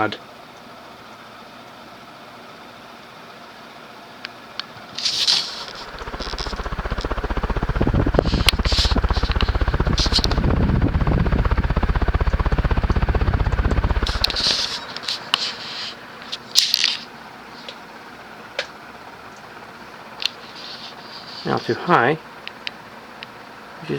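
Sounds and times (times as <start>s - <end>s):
ceiling fan air pulsing: 4.7s - 23.9s.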